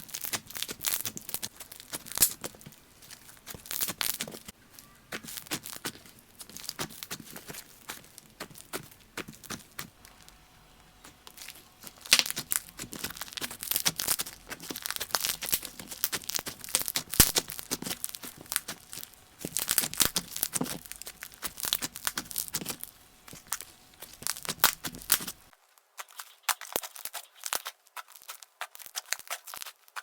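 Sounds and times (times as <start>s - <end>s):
slime squishing and crackling: 0.0s - 30.0s.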